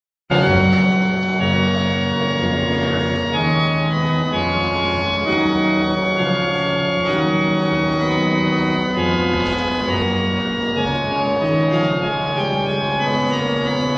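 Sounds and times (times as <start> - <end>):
organ playing slow chords: 0.3 - 13.9.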